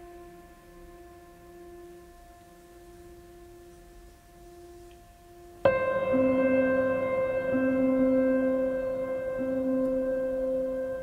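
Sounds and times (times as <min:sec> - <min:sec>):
soft held chords: 0:00.0 - 0:11.0.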